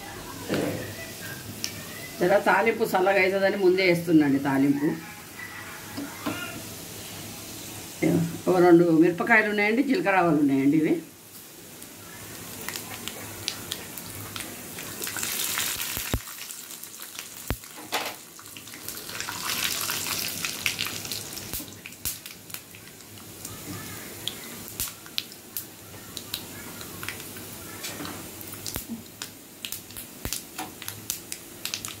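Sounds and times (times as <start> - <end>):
spices sizzling and popping in oil: 0.4 - 32.0.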